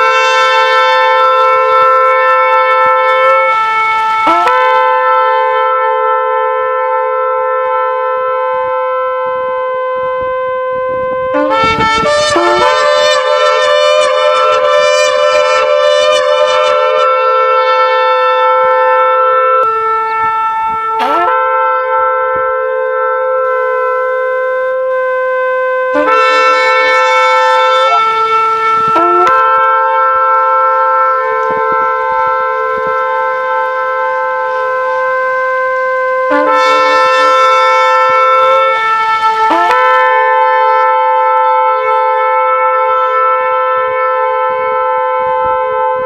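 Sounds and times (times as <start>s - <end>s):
ram's horn long notes: 0.0s - 46.0s
second horn sounding: 0.0s - 46.0s.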